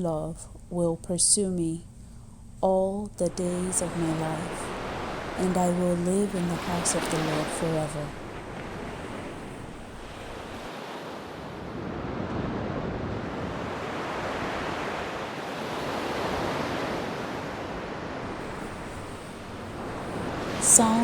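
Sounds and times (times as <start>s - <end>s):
ocean waves washing on shore: 3.2s - 21.0s.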